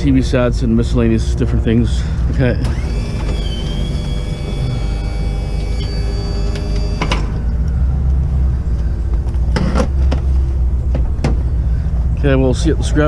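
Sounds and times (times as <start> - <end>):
van engine rumbling: 0.0 - 13.0.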